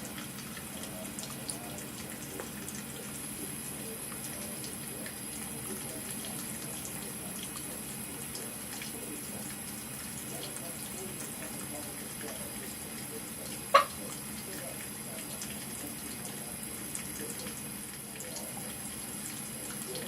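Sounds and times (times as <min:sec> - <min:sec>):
faucet running into sink: 0:00.0 - 0:20.0.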